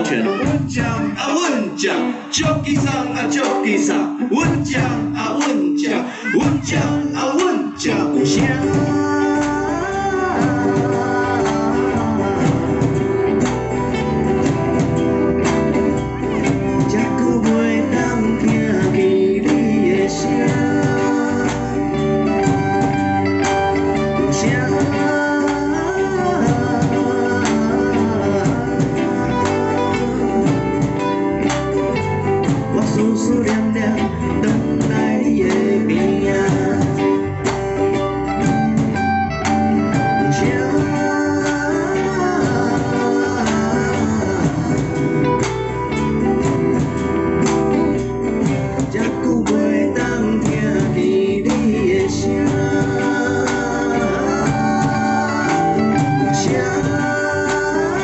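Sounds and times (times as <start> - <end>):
man singing: 0.0 - 15.0, 16.3 - 47.8, 48.4 - 58.0
drum kit: 0.0 - 58.0
electric guitar: 0.0 - 58.0
strummed acoustic guitar: 0.0 - 58.0.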